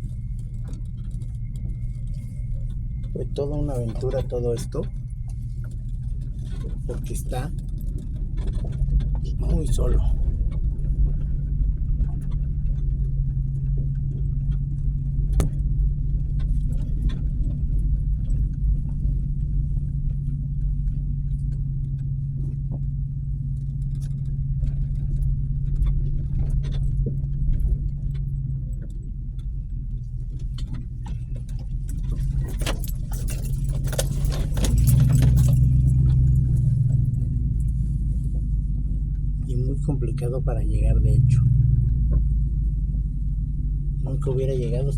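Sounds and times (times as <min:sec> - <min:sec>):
light rattles and clicks: 0:00.0 - 0:44.9
pickup truck engine running: 0:00.0 - 0:44.9.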